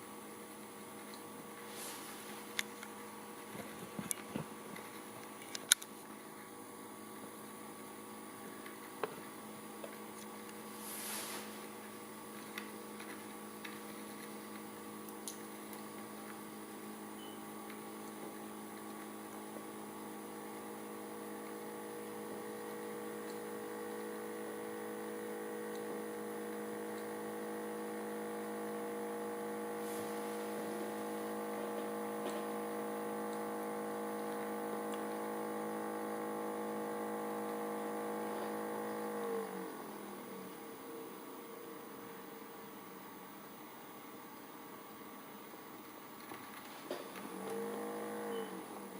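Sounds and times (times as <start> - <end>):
magnetic stirrer humming: 0.0 - 42.0.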